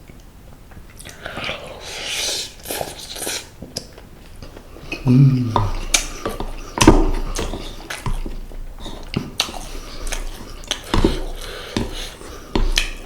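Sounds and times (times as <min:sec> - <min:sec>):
wet chewing: 0:00.9 - 0:13.0.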